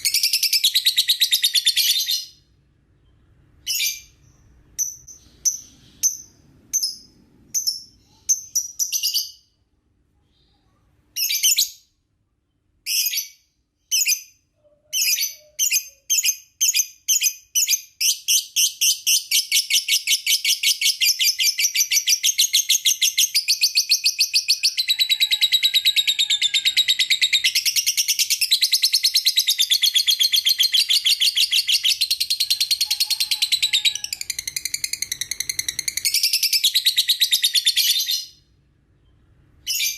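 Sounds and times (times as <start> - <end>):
lovebird chirping and trilling: 0.0 - 9.6, 10.3 - 12.0, 12.8 - 39.9.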